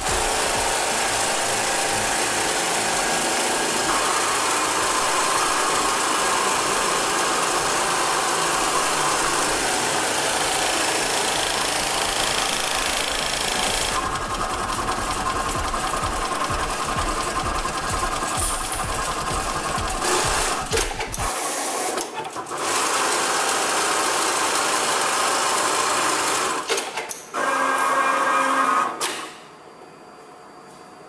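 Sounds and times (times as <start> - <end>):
industrial sewing machine running: 0.0 - 29.1.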